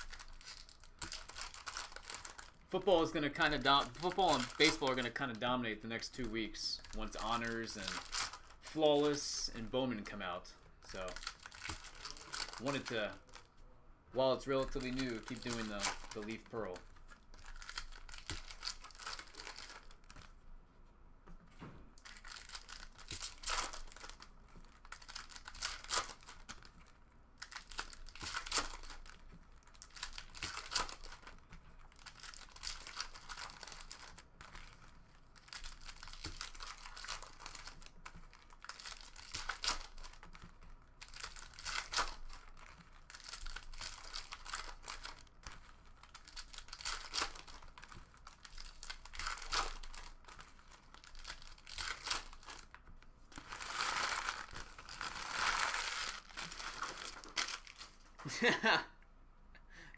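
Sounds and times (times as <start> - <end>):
foil wrappers tearing and crinkling: 0.0 - 5.2, 6.1 - 9.2, 10.9 - 13.5, 14.6 - 20.3, 22.0 - 58.0.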